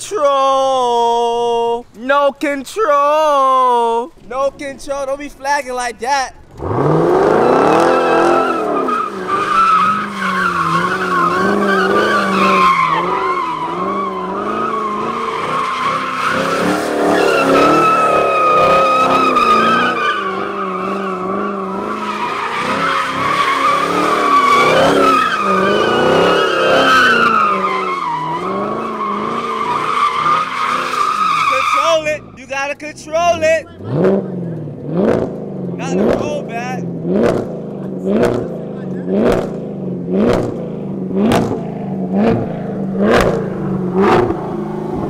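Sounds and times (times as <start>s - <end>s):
tires screeching: 6.3s - 45.0s
car engine revving: 6.4s - 45.0s.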